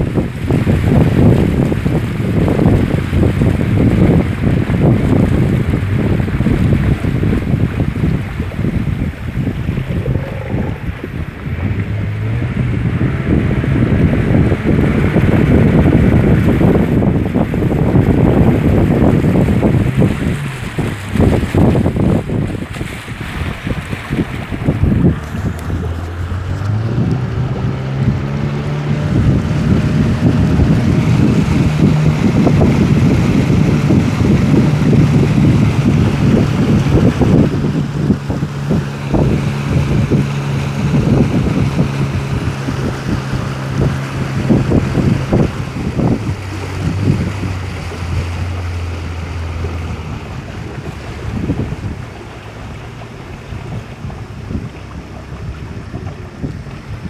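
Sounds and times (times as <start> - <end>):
outboard motor running: 0.0 - 57.0
rushing water: 0.0 - 57.0
wind buffeting microphone: 0.0 - 57.0.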